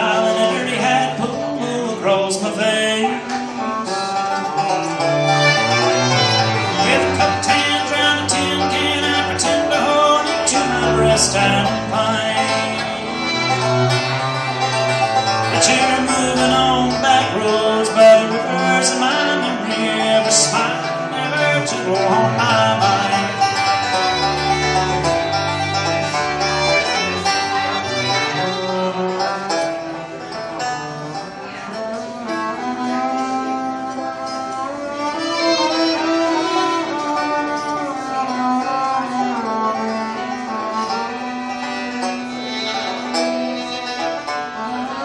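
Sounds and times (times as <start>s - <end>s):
banjo picking: 0.0s - 45.0s
fiddle bowed notes: 0.0s - 45.0s
plucked bass line: 0.0s - 45.0s.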